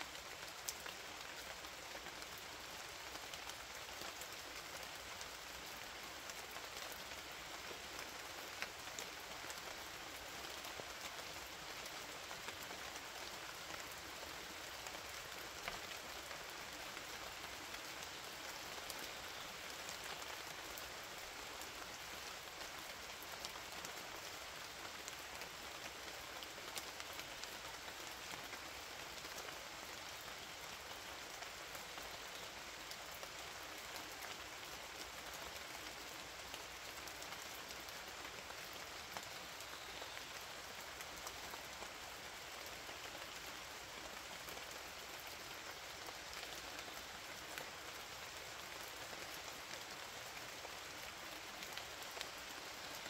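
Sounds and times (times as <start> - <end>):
raindrops ticking on surface: 0.0 - 53.0
steady rain hiss: 0.0 - 53.0.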